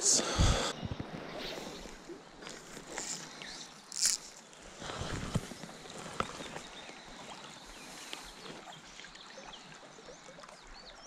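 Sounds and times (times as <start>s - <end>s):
river water flowing over stones: 1.0s - 11.0s
small splashes and ticks: 2.0s - 11.0s.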